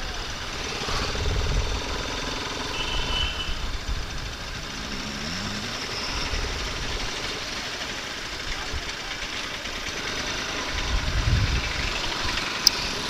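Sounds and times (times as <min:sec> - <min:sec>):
engine revving: 0:00.0 - 0:13.0
road traffic engines rumbling: 0:00.0 - 0:13.0.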